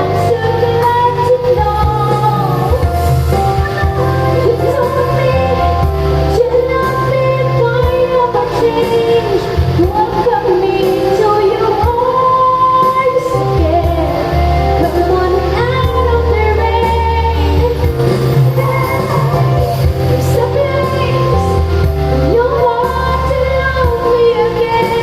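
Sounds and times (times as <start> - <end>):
held bass notes: 0.0 - 25.0
woman singing: 0.0 - 25.0.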